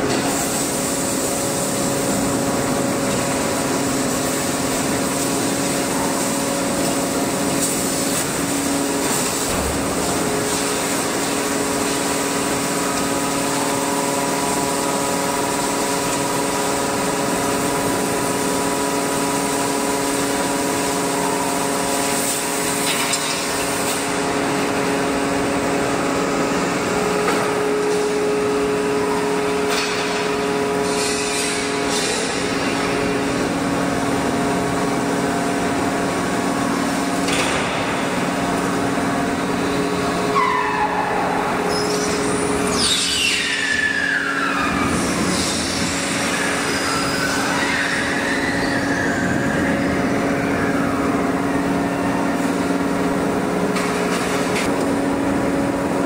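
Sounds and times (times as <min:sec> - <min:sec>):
forging press machine hum: 0:00.0 - 0:56.0.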